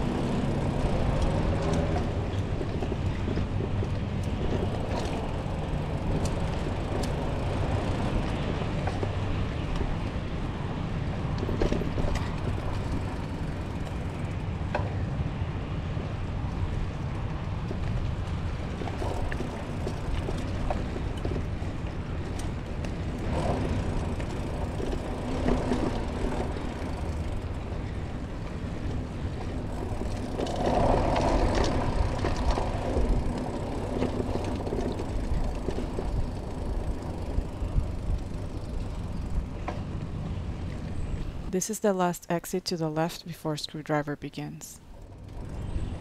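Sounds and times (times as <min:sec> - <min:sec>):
bike tyres rolling on dirt: 0:00.0 - 0:41.5, 0:44.9 - 0:46.0.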